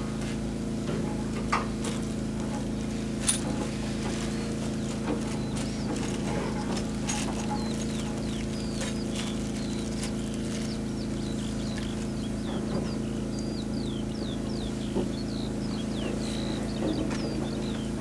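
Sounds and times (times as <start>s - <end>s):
concrete mixer motor hum: 0.0s - 18.0s
birds chirping faintly: 1.7s - 18.0s.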